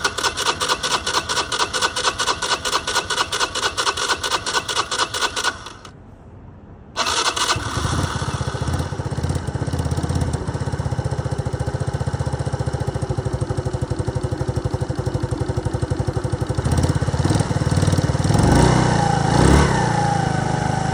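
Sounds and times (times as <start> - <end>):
engine starting and idling: 0.0 - 6.0, 7.0 - 19.2.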